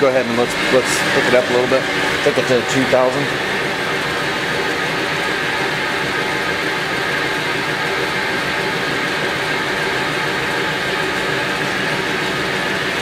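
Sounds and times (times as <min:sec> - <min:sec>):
lathe spindle whirring: 0:00.0 - 0:13.0.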